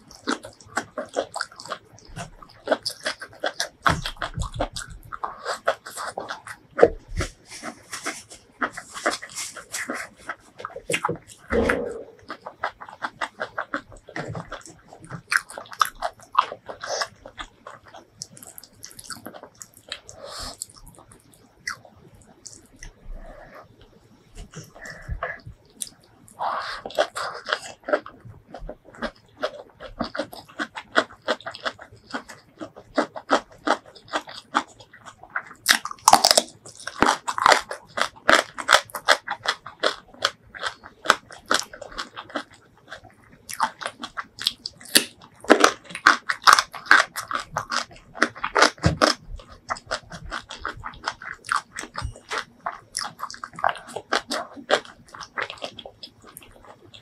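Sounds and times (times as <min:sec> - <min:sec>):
chewing with sharp crunches: 0:00.0 - 0:57.0.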